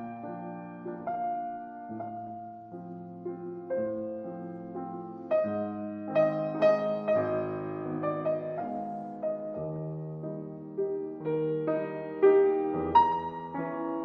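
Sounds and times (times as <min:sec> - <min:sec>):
piano background music: 0:00.0 - 0:14.0.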